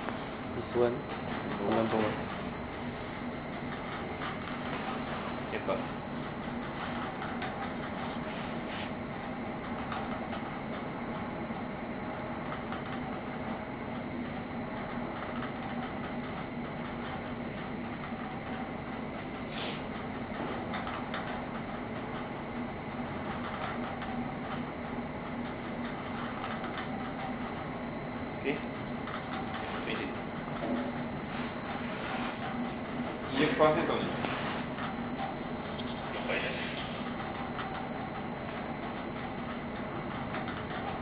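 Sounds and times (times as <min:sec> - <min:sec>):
machine whining over a hum: 0:00.0 - 0:41.0.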